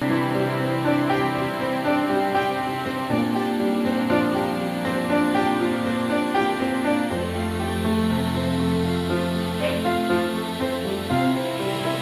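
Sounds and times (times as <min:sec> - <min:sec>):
soft slow instrumental music: 0:00.0 - 0:12.0.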